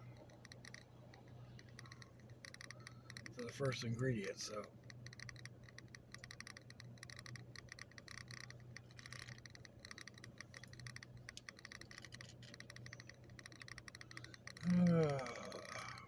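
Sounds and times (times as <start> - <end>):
fast faint clicking: 0.0 - 16.0
steady low hum: 0.0 - 16.0.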